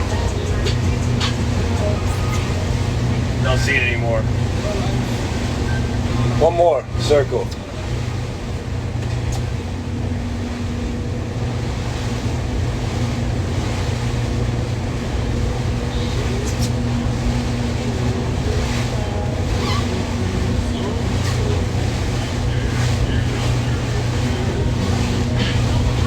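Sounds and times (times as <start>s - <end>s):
motorboat engine droning: 0.0s - 26.0s
water noise: 0.0s - 26.0s
wind: 0.0s - 26.0s.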